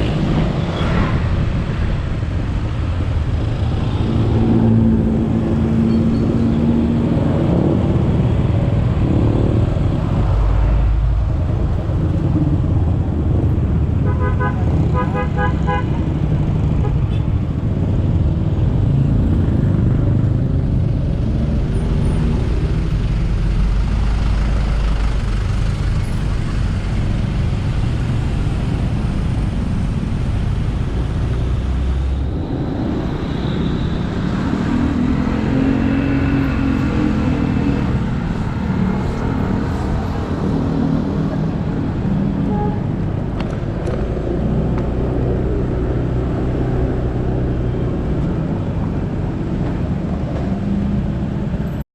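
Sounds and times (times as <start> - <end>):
surrounding traffic: 0.0 - 51.8
wind and road noise: 0.0 - 51.8.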